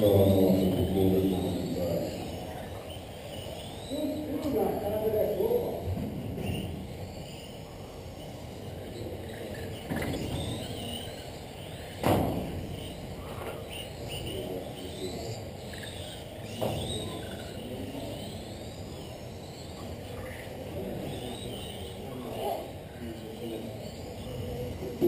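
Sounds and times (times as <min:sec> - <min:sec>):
rc car motors whining: 0:00.0 - 0:05.8, 0:06.4 - 0:12.0, 0:12.7 - 0:25.0.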